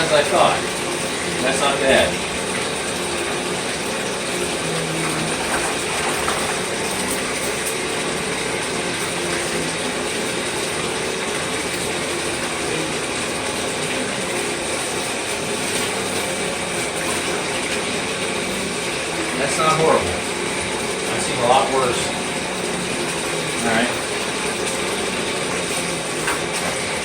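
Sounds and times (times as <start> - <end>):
tap water running and splashing: 0.0 - 27.0.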